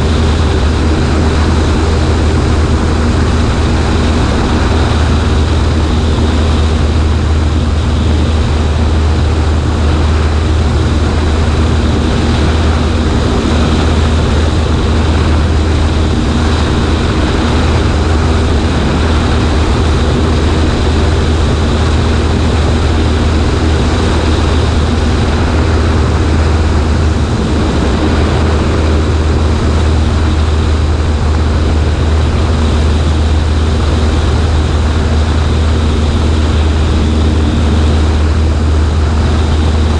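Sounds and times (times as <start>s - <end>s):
airplane engine and propeller: 0.0s - 39.9s
wind rushing past: 0.0s - 39.9s.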